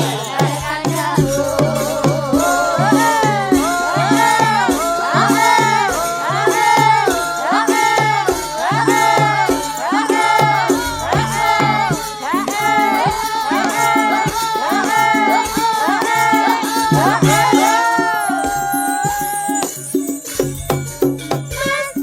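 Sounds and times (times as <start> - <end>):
gamelan music: 0.0 - 22.0.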